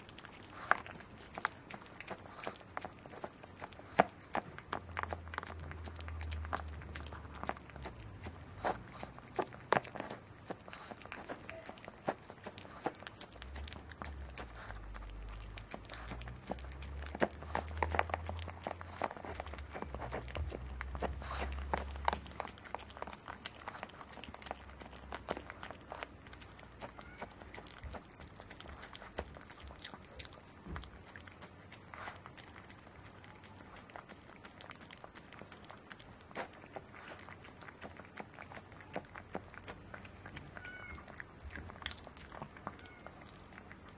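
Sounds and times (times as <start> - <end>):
dog licking and chewing: 0.0 - 43.9.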